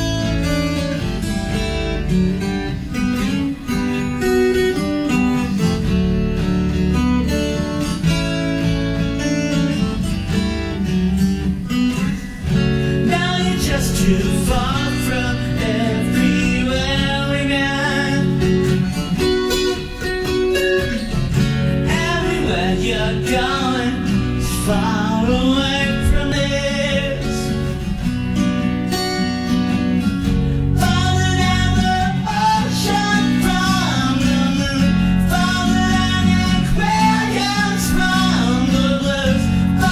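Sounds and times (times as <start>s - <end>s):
acoustic guitar: 0.0s - 39.9s.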